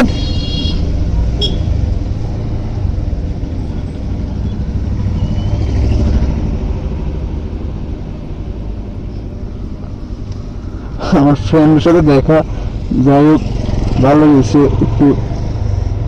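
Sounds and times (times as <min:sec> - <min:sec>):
road and traffic rumble: 0:00.0 - 0:16.0.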